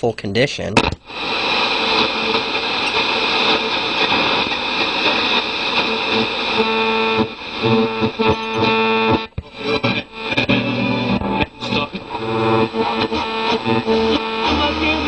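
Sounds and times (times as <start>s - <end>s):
radio static: 0.8s - 15.0s
steady radio tones: 0.8s - 15.0s.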